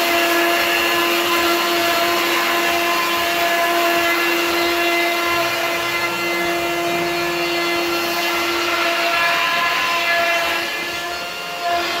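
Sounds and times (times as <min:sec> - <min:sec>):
router motor whine cutting wood: 0:00.0 - 0:12.0.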